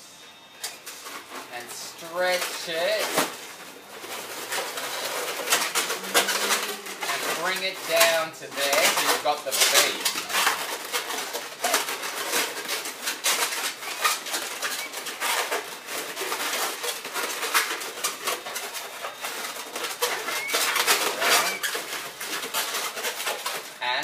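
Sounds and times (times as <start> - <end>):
balloons squeaking and rubbing: 0.8 - 24.0.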